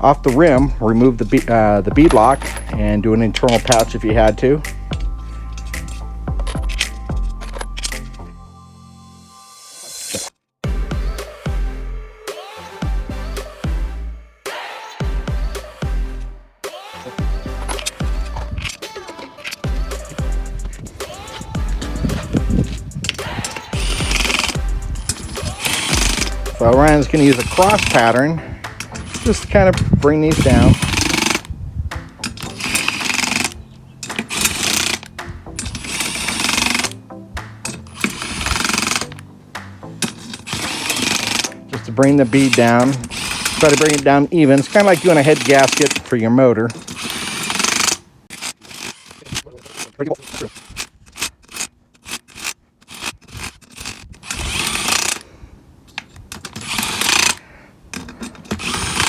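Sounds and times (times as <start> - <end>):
impact wrench hammering bursts: 1.4 - 8.2, 17.2 - 55.3, 56.2 - 59.0.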